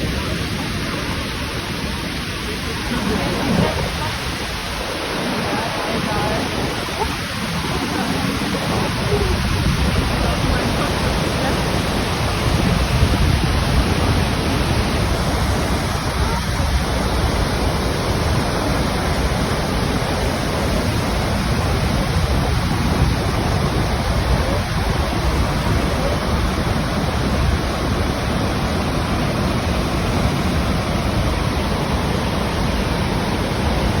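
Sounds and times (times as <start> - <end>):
loud rush of falling water: 0.0 - 34.0.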